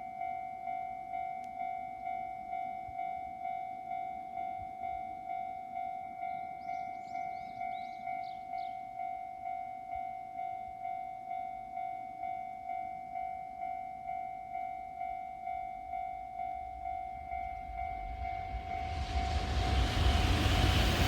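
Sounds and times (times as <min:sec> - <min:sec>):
level-crossing electronic bell: 0:00.0 - 0:19.8.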